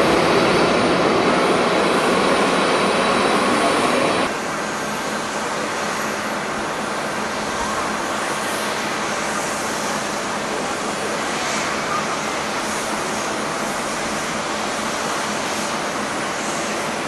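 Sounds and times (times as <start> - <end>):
distant jet engines rushing: 0.0 - 17.0
loud jet noise: 0.0 - 17.0.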